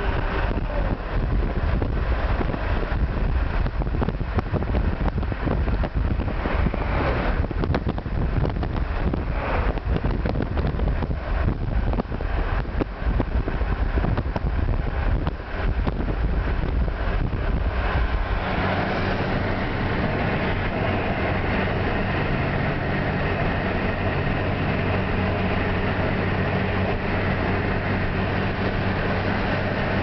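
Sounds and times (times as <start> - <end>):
low engine hum: 0.0 - 30.0
tyre and wind rush: 0.0 - 30.0
wind on microphone: 0.0 - 30.0.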